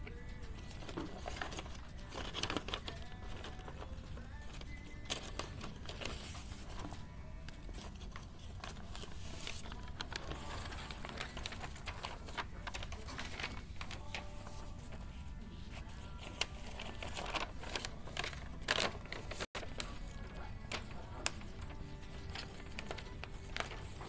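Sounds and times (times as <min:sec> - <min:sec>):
faint background music: 0:00.0 - 0:24.0
paper rustling and crinkling: 0:00.0 - 0:24.0.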